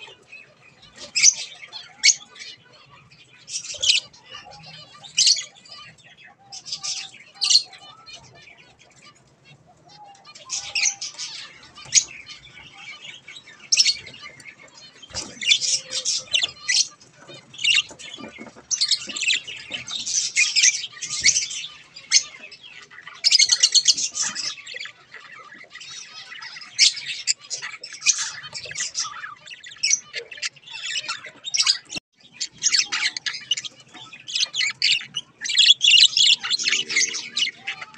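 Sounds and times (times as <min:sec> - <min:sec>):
budgerigars chirping and chattering: 0:00.0 - 0:37.9.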